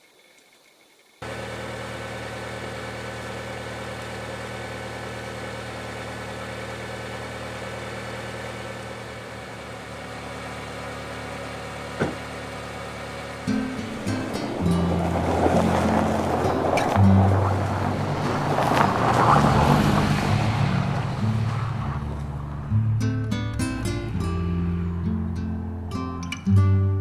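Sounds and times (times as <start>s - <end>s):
car engine idling: 1.2s - 27.0s.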